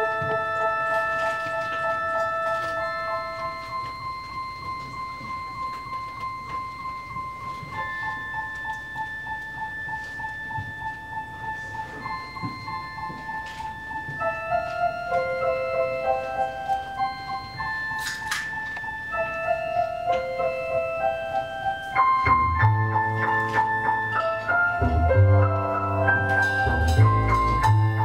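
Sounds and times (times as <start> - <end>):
experimental ensemble music: 0.0 - 28.0.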